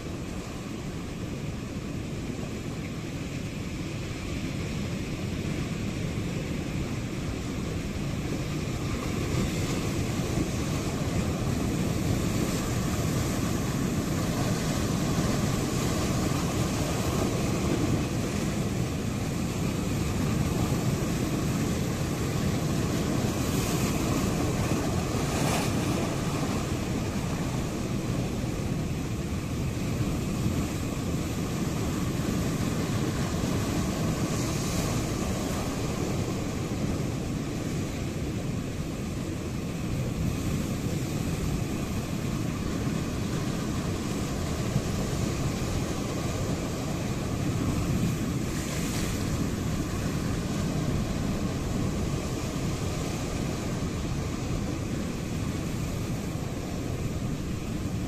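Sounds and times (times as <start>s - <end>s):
sea waves surging on shore: 0.0s - 58.0s.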